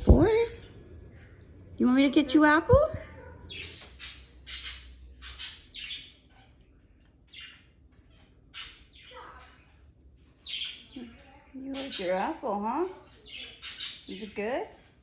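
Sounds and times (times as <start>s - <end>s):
parrot chirpy calls: 2.4s - 15.0s.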